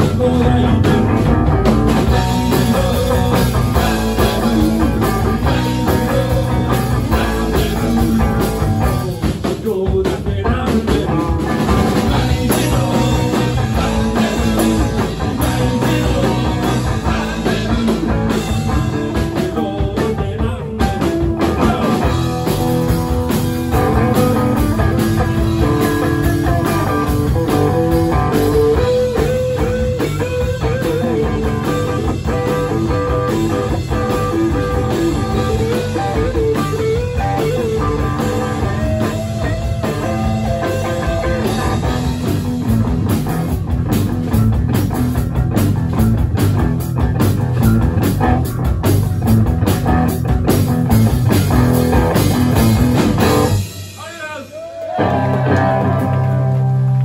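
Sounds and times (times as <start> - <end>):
rock band playing: 0.0 - 57.0.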